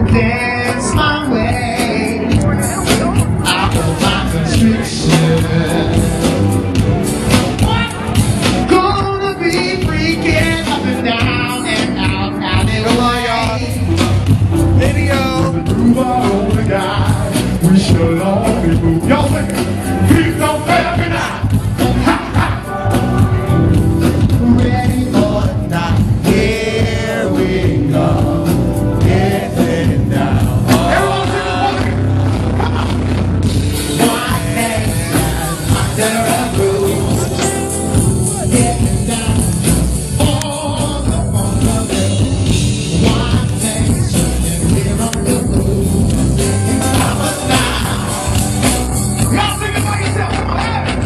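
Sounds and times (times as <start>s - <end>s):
heavy bass: 0.0s - 51.0s
live funk band playing: 0.0s - 51.0s
person singing: 0.0s - 51.0s.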